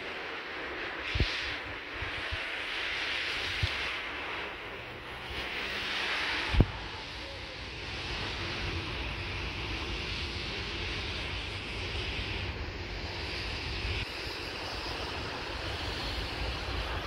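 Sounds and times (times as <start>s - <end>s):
freight train wheels rumbling on rail: 0.0s - 17.0s
hiss: 0.0s - 17.0s.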